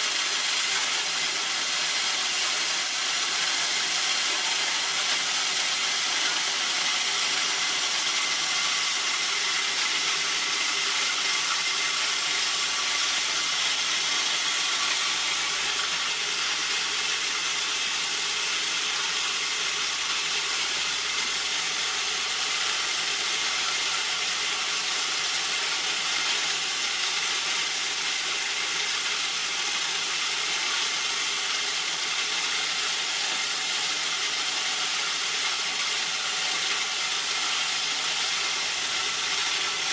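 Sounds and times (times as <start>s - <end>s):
mill grinding corn: 0.0s - 39.9s.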